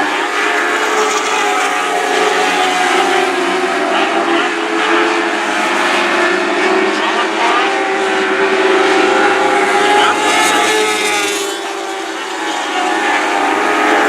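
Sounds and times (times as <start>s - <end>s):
race car engines whining: 0.0s - 14.0s.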